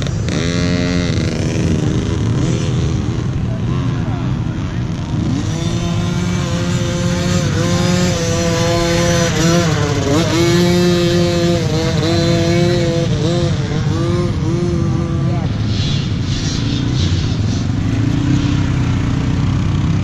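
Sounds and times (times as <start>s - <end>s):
dirt bike engine at high revs: 0.0s - 20.0s.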